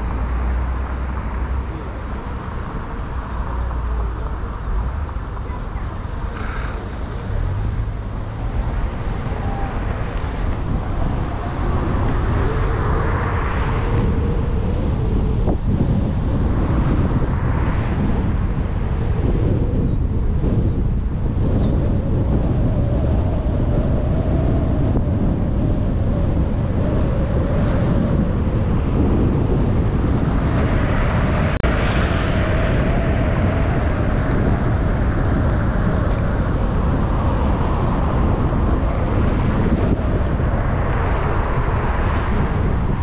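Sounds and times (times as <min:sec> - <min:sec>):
car road and wind noise: 0:00.0 - 0:43.0.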